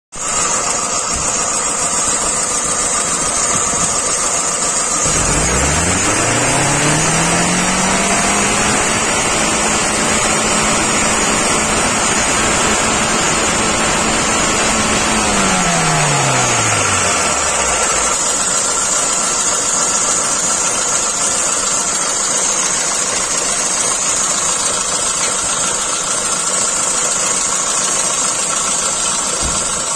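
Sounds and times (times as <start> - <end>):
car engine idling: 0.2 - 29.9.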